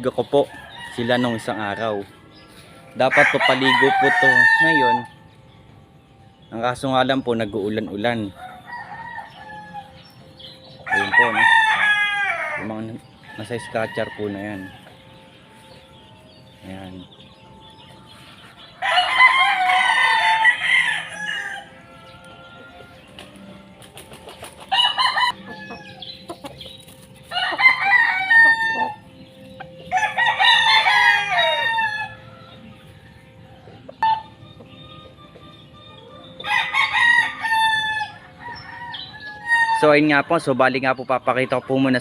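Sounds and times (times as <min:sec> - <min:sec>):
roosters crowing: 0:00.0 - 0:42.0.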